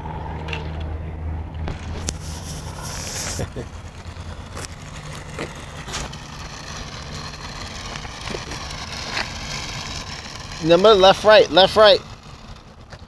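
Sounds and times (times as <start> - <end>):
low rumble: 0.0 - 13.0
toy car electric motor whirring: 1.7 - 13.0.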